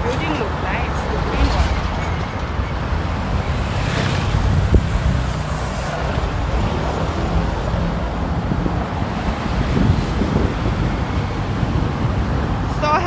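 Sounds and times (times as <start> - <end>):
street traffic rumbling: 0.0 - 13.0
wind buffeting microphone: 0.0 - 13.0.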